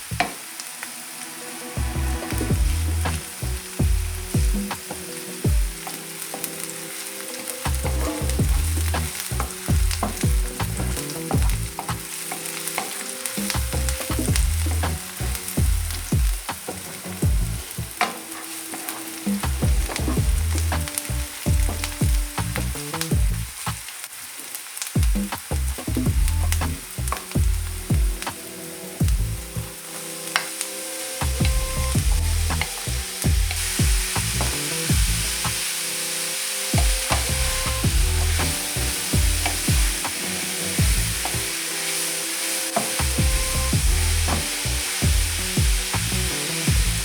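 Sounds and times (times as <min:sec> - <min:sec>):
food sizzling in hot oil: 0:00.0 - 0:47.0.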